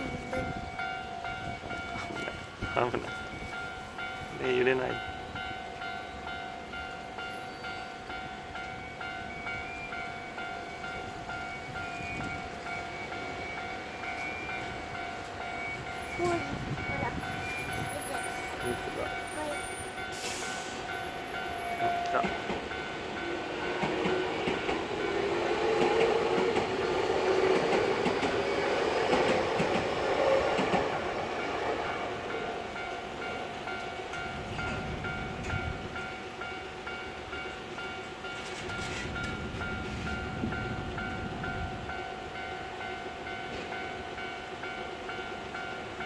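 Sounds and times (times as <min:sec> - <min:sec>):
electric train passing: 0:00.0 - 0:46.0
level crossing warning bell: 0:00.0 - 0:46.0.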